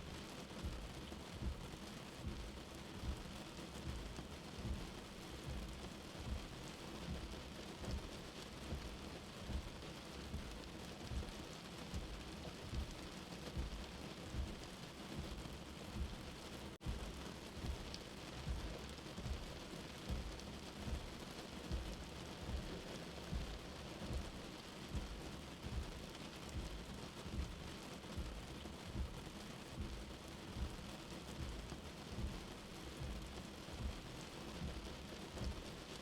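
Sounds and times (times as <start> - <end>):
rain hiss: 0.0 - 36.0
heartbeat thumping: 0.6 - 35.8.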